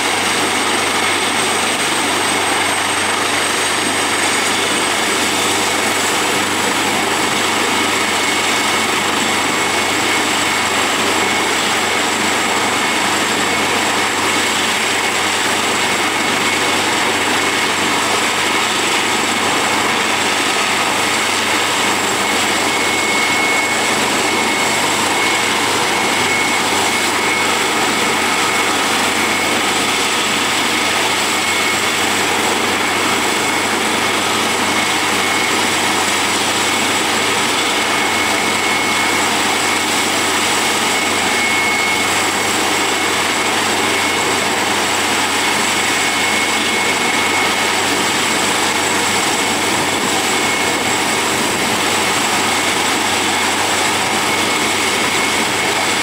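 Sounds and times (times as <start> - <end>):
helicopter turbine whine: 0.0 - 56.0.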